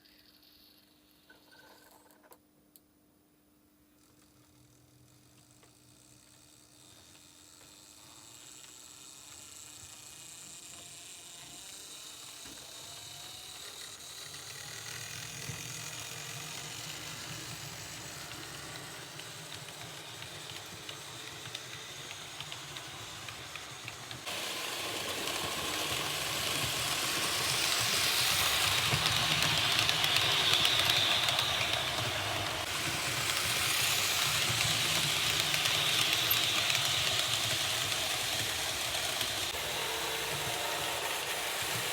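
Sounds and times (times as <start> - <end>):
model train running on track: 5.9 - 41.9.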